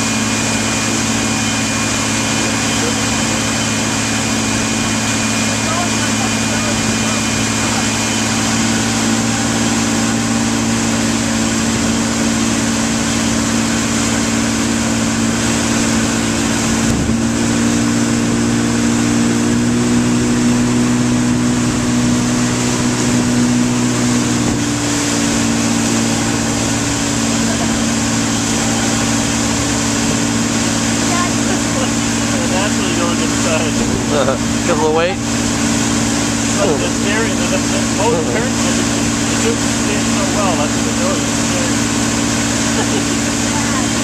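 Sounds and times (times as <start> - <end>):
churning wake rushing: 0.0 - 44.0
motorboat engine humming: 0.0 - 44.0
wind: 0.0 - 44.0.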